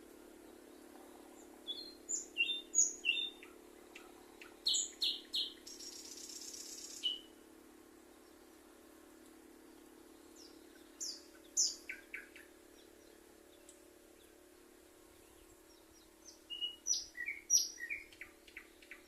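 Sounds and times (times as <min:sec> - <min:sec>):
songbird chirping: 0:00.1 - 0:07.4, 0:08.0 - 0:19.0.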